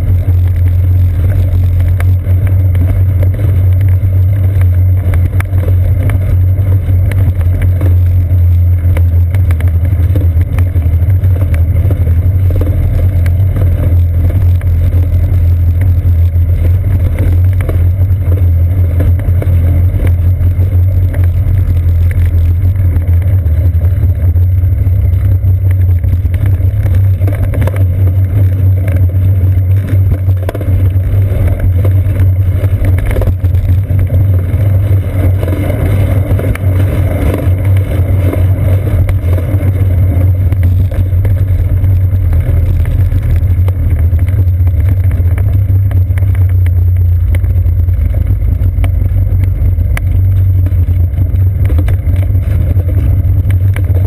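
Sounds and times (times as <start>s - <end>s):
bicycle rolling rumble: 0.0s - 54.0s.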